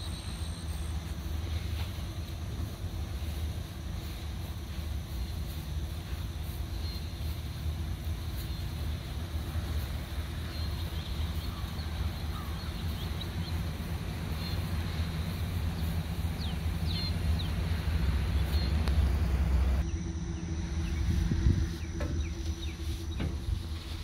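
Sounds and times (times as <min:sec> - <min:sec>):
birds chirping: 0:00.0 - 0:24.0
low rumble: 0:00.0 - 0:24.0.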